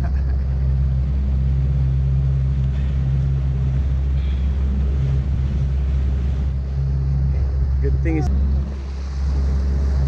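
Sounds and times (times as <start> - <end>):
motorboat engine humming: 0.0 - 10.0.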